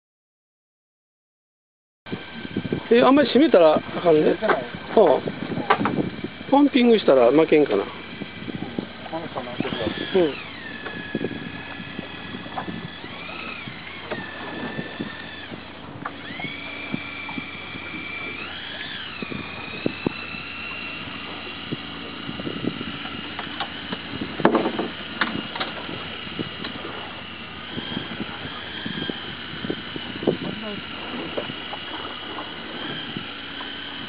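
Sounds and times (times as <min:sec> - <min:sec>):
fishing reel motor whining: 0:02.1 - 0:34.0
reel and rod clicks: 0:02.2 - 0:34.0.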